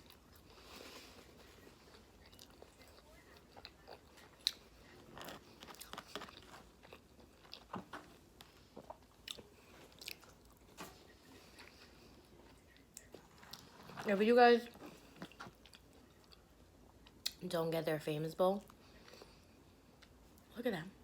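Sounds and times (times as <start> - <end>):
person chewing food: 0.0 - 14.0, 14.7 - 17.4, 18.6 - 20.4.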